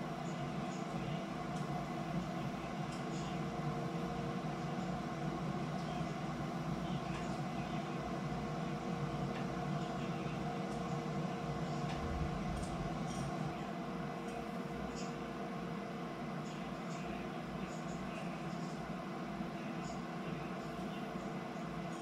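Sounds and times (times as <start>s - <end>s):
mechanical hum with tones: 0.0s - 22.0s.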